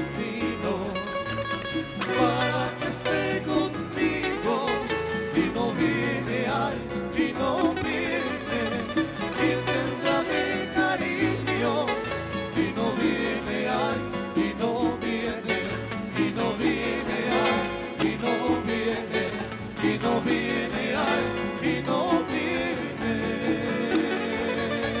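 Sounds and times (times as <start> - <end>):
bass guitar: 0.0 - 25.0
maracas: 0.0 - 25.0
requinto playing lead melody: 0.0 - 25.0
strummed acoustic guitars: 0.0 - 25.0.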